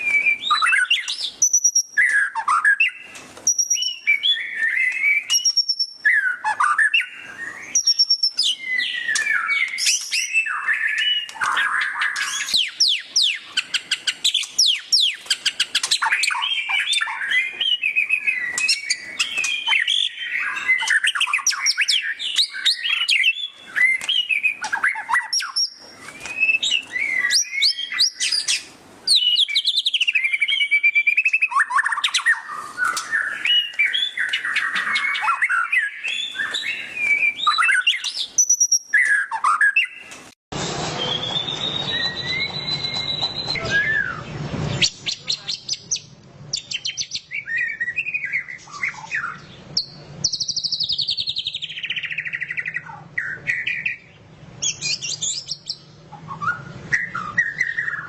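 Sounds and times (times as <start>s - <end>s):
bird singing whistles and trills: 0.0s - 40.2s, 41.0s - 58.0s.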